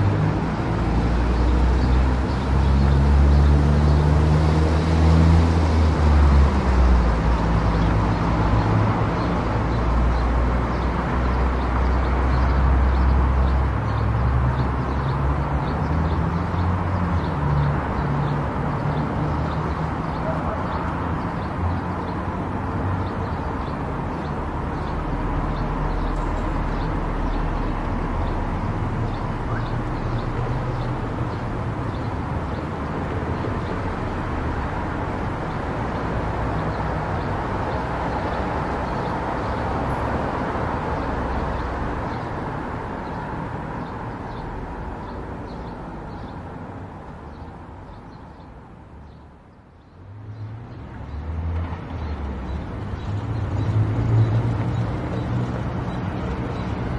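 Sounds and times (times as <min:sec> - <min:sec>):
car engine and tyre noise: 0:00.0 - 0:56.9.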